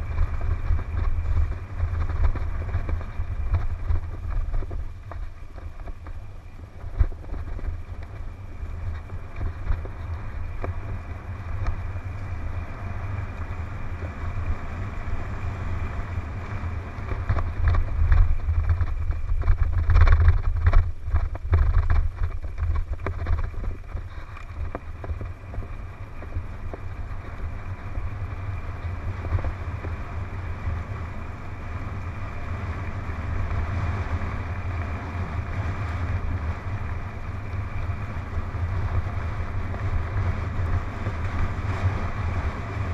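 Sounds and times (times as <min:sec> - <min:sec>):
tyres rumbling on dirt: 0:00.0 - 0:42.9
wind buffeting microphone: 0:00.0 - 0:42.9.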